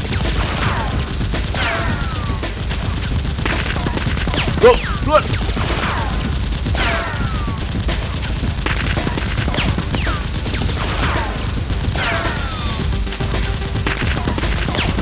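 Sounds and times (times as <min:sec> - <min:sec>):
backing music track: 0:00.0 - 0:15.0
gunfire sound effects: 0:00.1 - 0:15.0.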